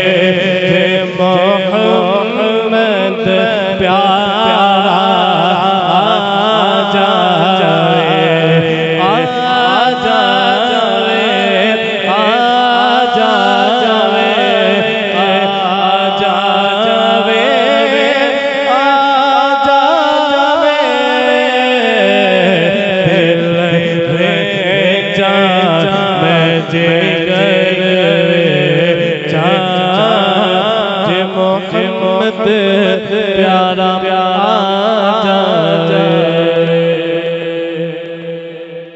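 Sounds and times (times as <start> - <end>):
man singing into a microphone: 0.0 - 38.9.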